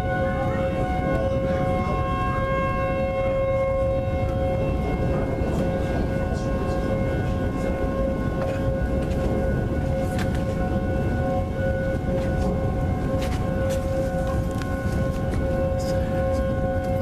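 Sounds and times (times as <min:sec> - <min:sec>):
tornado sirens wailing: 0:00.0 - 0:17.0.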